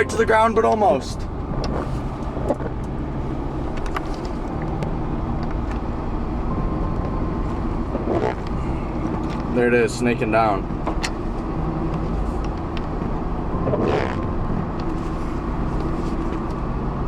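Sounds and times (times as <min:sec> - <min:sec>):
car engine running: 0:00.0 - 0:17.0
road hum: 0:00.0 - 0:17.0.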